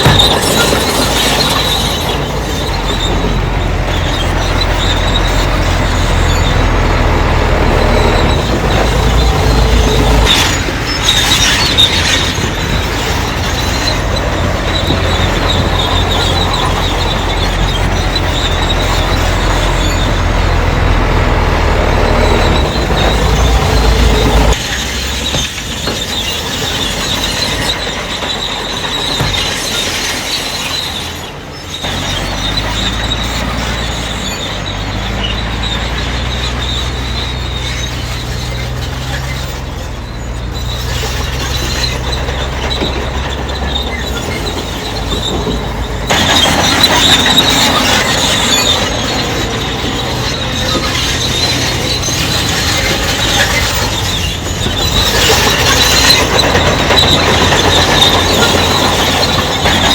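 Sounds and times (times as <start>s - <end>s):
diesel engine running: 0.0s - 59.9s
steel tracks squealing and clanking: 0.0s - 59.9s.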